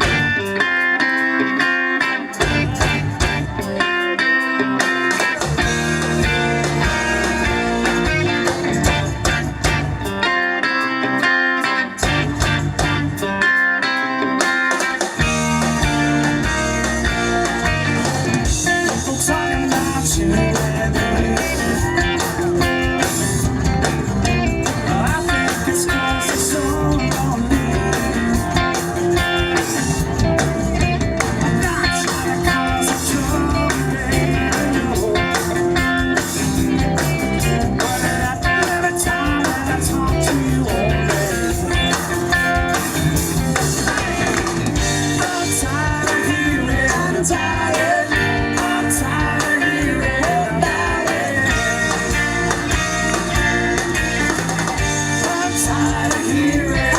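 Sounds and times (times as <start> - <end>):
rock band instrumental: 0.0 - 56.9.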